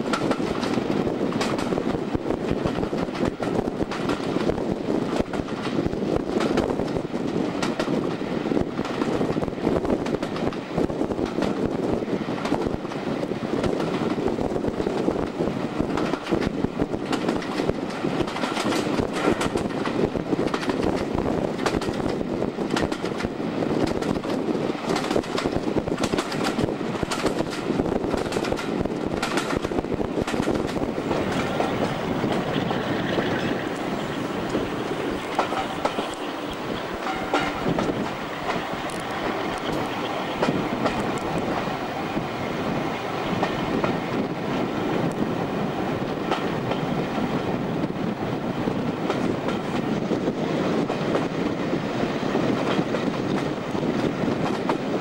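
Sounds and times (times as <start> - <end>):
train wheels on rails: 0.0 - 55.0
wind rushing: 0.0 - 55.0.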